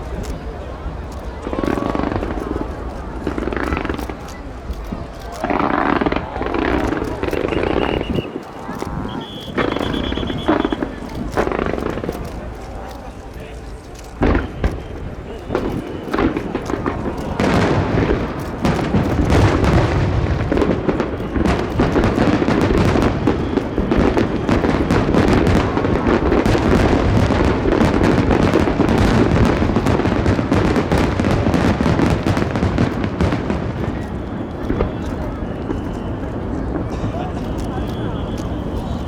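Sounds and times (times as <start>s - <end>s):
fireworks bursts and crackle: 0.0s - 39.0s.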